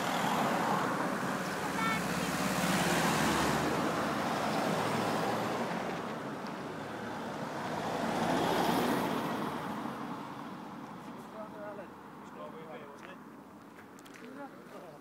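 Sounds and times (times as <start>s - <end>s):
cars driving past: 0.0s - 14.5s.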